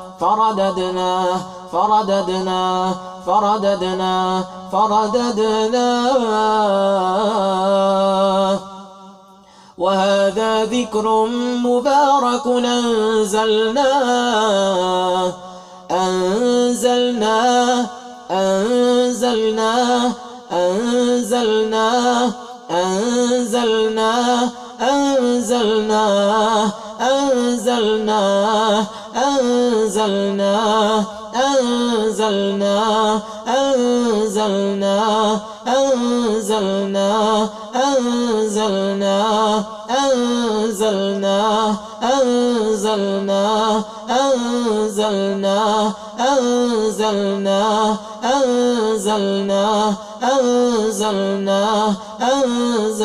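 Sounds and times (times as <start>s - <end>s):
man chanting recitation: 0.0s - 9.0s, 9.8s - 53.0s.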